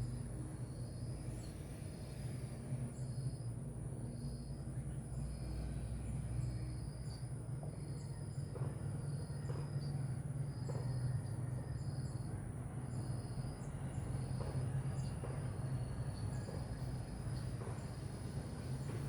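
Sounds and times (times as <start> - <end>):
insect high-pitched drone: 0.0 - 19.0.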